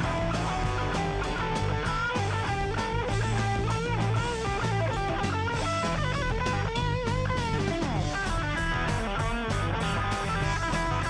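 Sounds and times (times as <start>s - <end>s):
bass guitar: 0.0s - 11.0s
drum kit: 0.0s - 11.0s
lead electric guitar: 0.0s - 11.0s.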